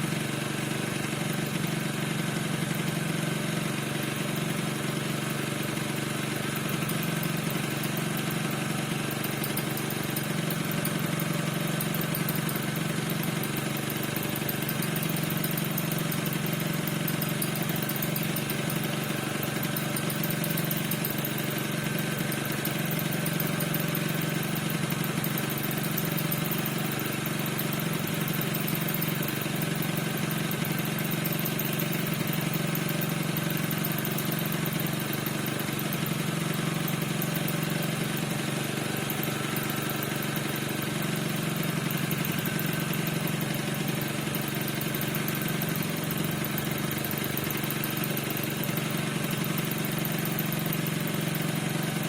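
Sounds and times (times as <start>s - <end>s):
scooter engine idling: 0.0s - 52.0s.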